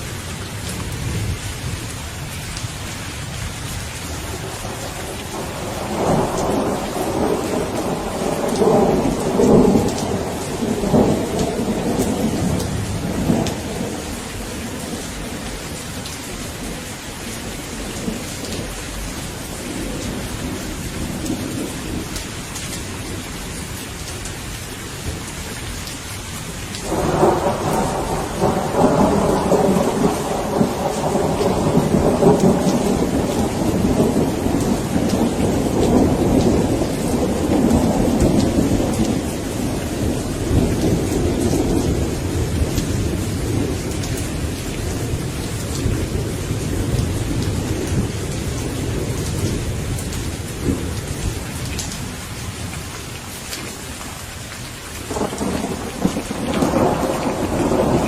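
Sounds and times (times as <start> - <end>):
rain falling: 0.0 - 58.0
rolling thunder: 3.7 - 22.2, 26.8 - 52.8, 55.1 - 58.0.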